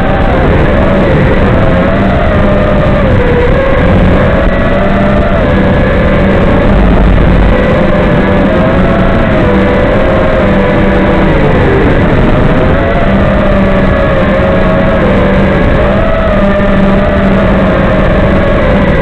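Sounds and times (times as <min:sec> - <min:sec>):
quadcopter motors buzzing: 0:00.0 - 0:19.0.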